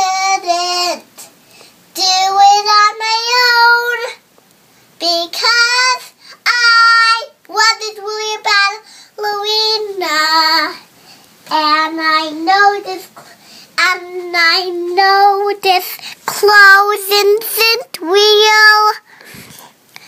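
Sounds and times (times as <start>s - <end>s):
girl singing: 0.0s - 4.3s, 5.0s - 19.3s.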